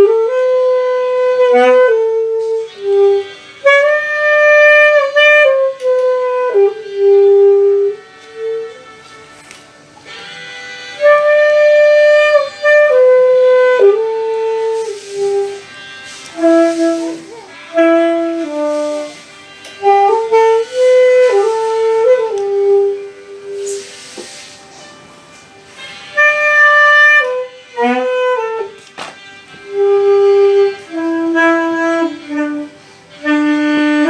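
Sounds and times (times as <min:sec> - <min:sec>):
saxophone playing slow melody: 0:00.0 - 0:34.0.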